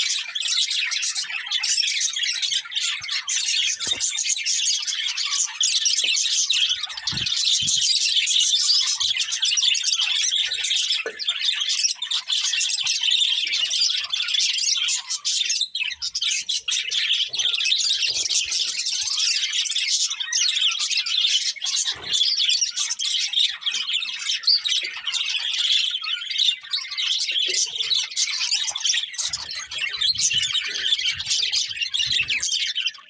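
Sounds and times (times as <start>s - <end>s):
budgerigars chirping and warbling: 0.0s - 33.0s.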